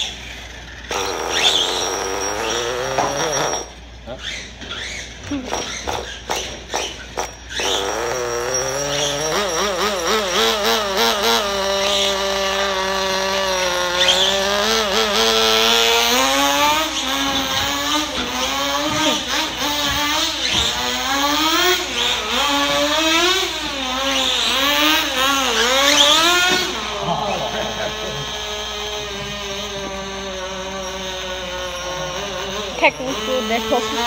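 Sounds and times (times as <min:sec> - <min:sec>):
small nitro engine revving: 0:00.0 - 0:34.0.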